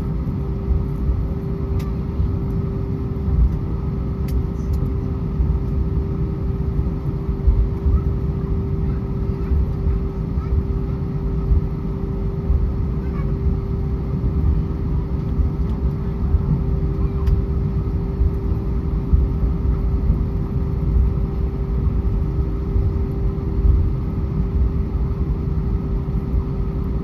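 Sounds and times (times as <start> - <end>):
aircraft cabin engine rumble: 0.0 - 27.0
constant hum: 0.0 - 27.0.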